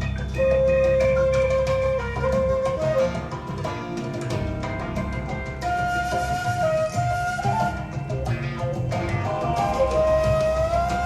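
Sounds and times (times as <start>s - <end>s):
instrumental rock over loudspeakers: 0.1s - 11.0s.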